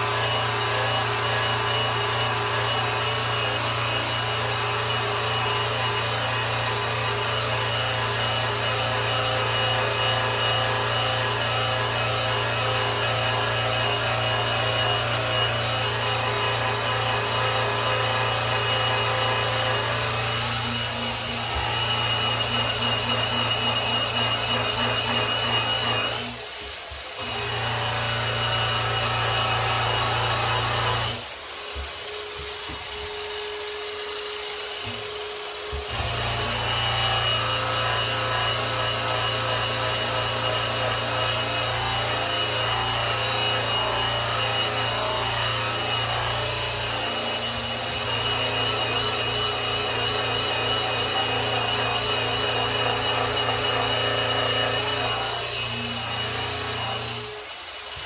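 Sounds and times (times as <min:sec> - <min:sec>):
electric polisher motor hum: 0:00.0 - 0:58.0.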